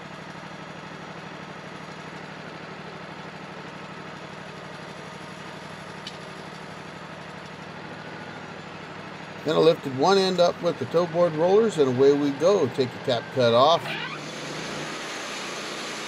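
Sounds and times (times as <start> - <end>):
sawmill engine idling: 0.0 - 16.0.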